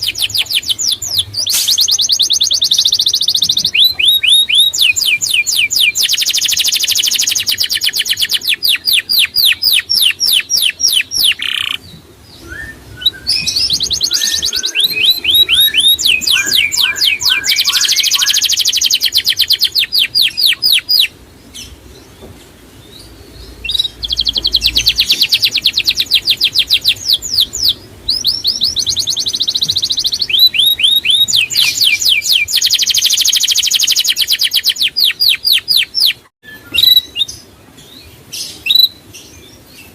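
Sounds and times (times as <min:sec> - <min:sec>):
songbird trilling: 0:00.0 - 0:21.8, 0:22.9 - 0:37.5.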